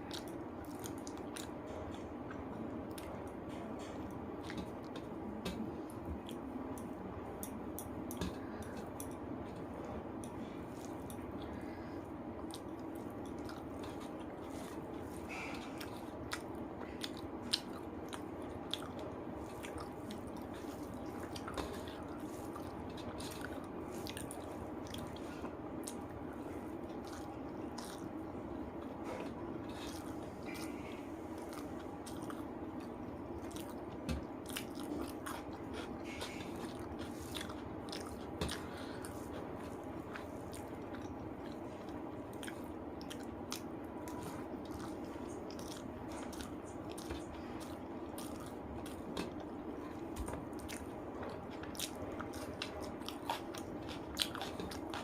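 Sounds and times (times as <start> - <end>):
person chewing food: 0.0 - 55.0
steady low hum: 0.0 - 55.0.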